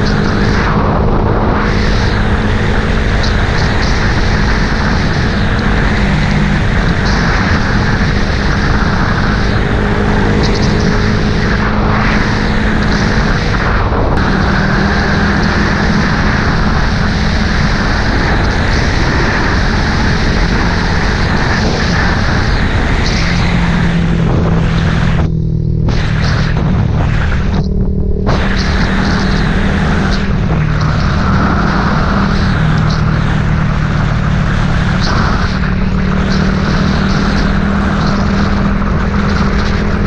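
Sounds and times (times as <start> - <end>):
low hum shifting pitch: 0.0 - 40.0
vehicle rushing noise: 0.0 - 40.0.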